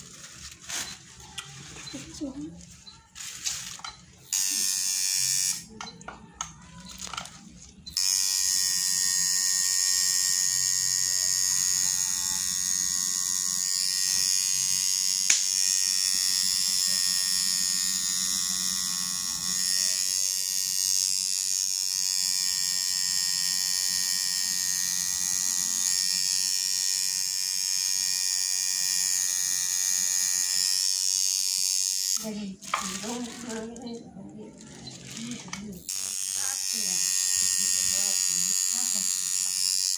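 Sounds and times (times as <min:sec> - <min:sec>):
tattoo machine buzzing: 0:00.0 - 0:33.7, 0:34.6 - 0:39.9.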